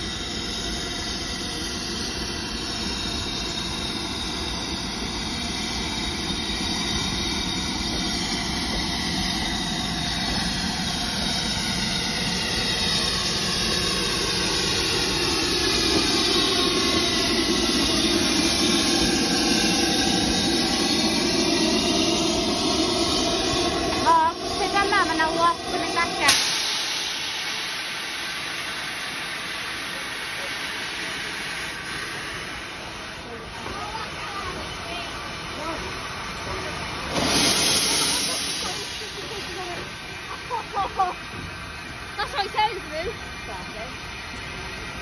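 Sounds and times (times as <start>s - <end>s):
steam locomotive rumble and hiss: 0.0s - 45.0s.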